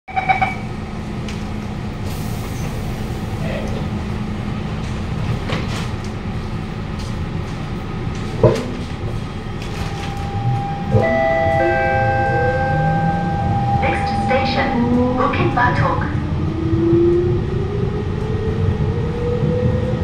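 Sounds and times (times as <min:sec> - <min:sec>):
train car hum: 0:00.1 - 0:20.0.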